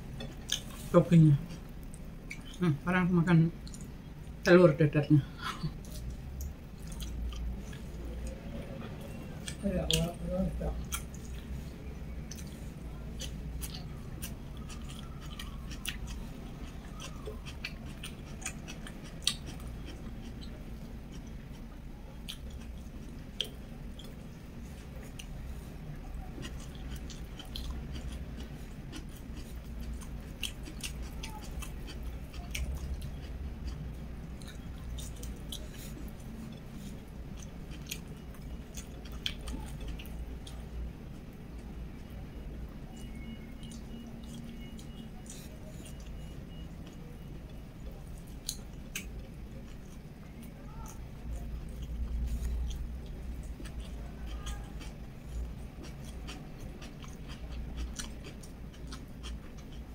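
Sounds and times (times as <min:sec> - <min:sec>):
person chewing food: 0:00.0 - 0:02.7, 0:05.6 - 0:10.2, 0:10.8 - 0:59.9
steady low hum: 0:00.0 - 0:59.9.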